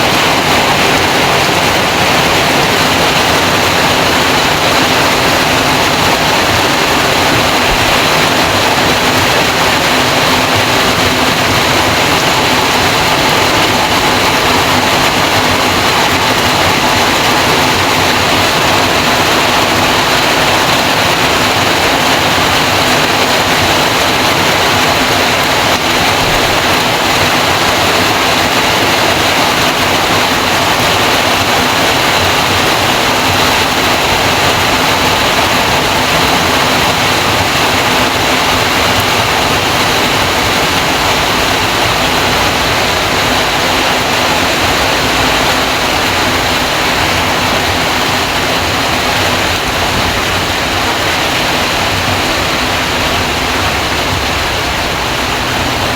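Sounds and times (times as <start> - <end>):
heavy rain: 0.0 - 55.9
rainwater pouring off roof: 0.0 - 55.9.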